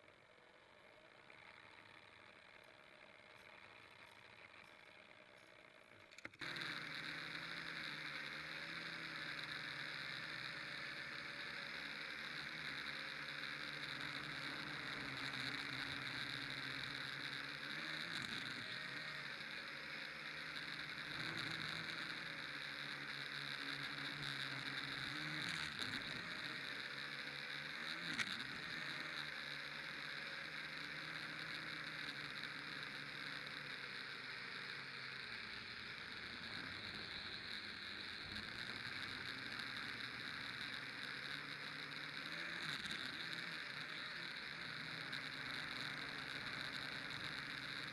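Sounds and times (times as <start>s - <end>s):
model aircraft motor whine: 0.0s - 47.9s.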